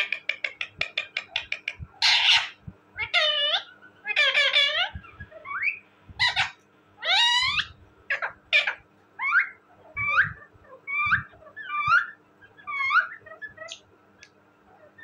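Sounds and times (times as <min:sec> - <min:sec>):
parakeet calling: 0:00.0 - 0:13.9.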